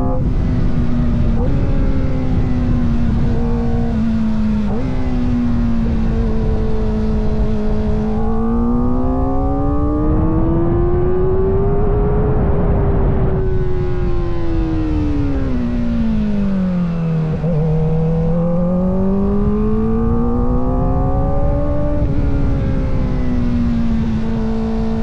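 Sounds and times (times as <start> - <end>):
wind on microphone: 0.0 - 16.6, 17.2 - 25.0
motorcycle engine revving: 0.0 - 25.0.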